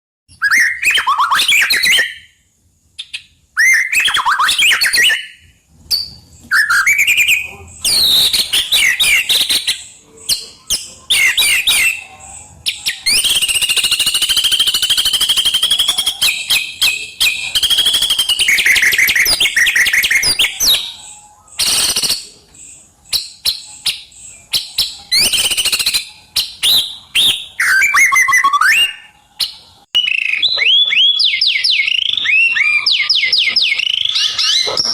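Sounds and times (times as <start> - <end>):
bird singing whistles and trills: 0.3 - 34.9.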